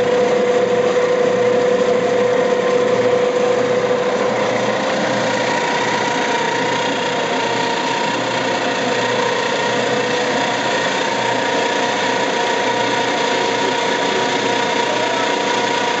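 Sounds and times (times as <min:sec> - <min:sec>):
coffee pulper machine whirring: 0:00.0 - 0:16.0
constant machine whine: 0:00.0 - 0:16.0.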